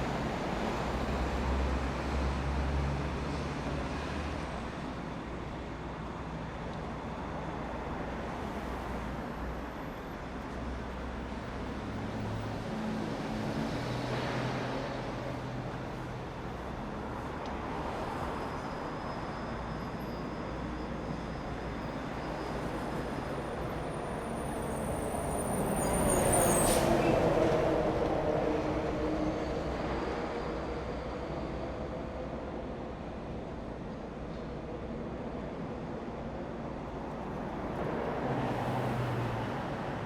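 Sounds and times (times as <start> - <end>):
city street traffic: 0.0 - 40.0.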